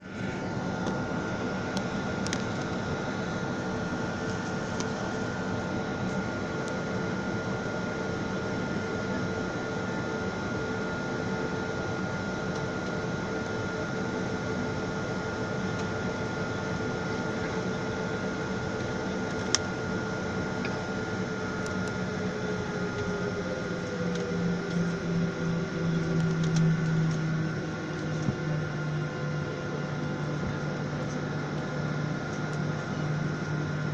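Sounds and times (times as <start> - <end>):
airliner engine hum in cabin: 0.0 - 33.9.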